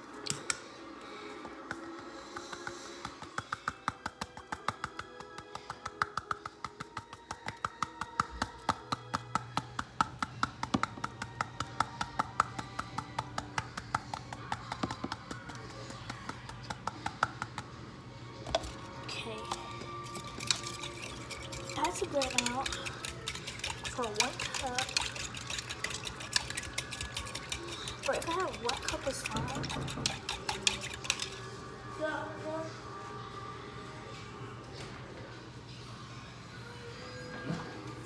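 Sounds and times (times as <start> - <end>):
background music: 0.0 - 38.0.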